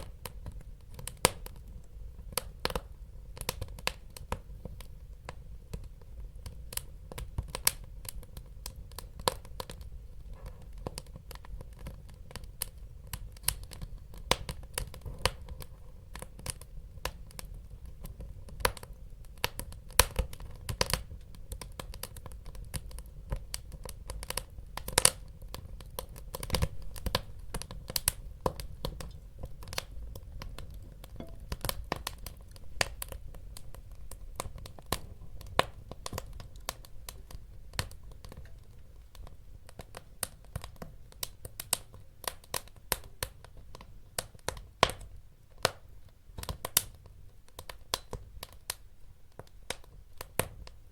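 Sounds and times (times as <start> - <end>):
low fire rumble: 0.0 - 50.9
wood fire crackling and popping: 0.0 - 50.9.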